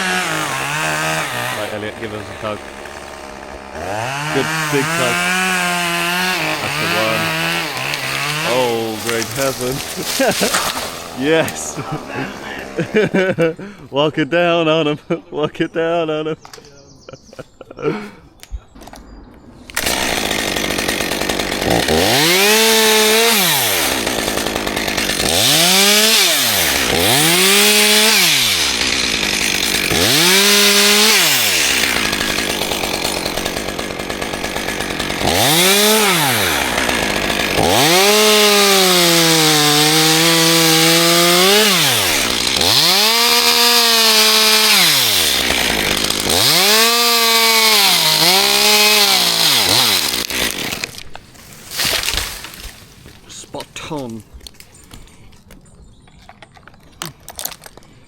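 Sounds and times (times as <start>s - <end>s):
chainsaw revving and idling: 0.0s - 13.8s, 19.7s - 54.1s.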